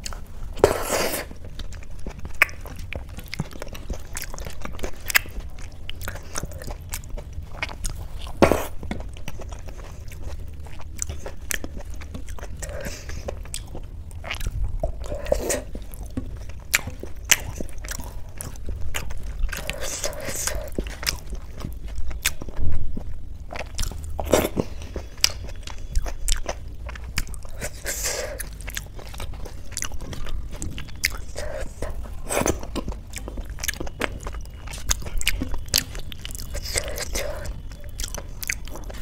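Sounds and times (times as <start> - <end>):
chewing soft food: 0.0 - 39.0.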